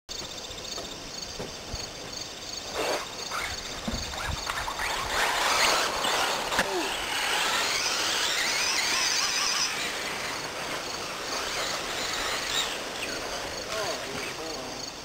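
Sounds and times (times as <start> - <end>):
electric toy car motors whining: 2.7 - 14.8.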